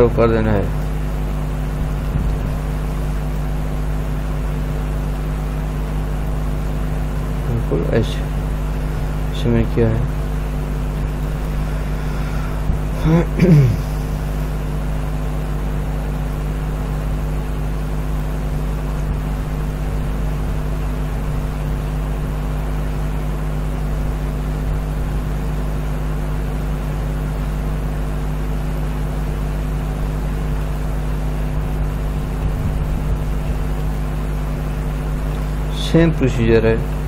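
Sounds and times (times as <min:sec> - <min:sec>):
low machine hum: 0:00.0 - 0:37.0.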